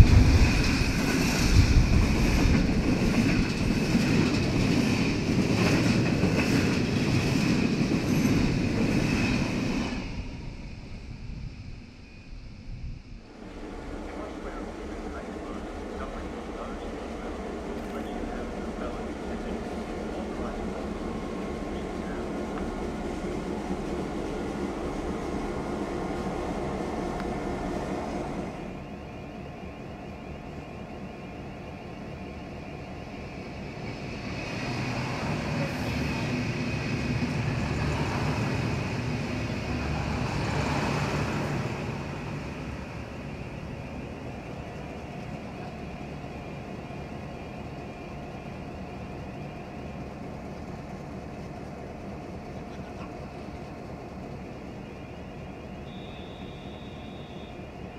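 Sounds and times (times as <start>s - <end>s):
diesel locomotive engines: 0.0s - 57.9s
train wheels on rail: 0.0s - 57.9s.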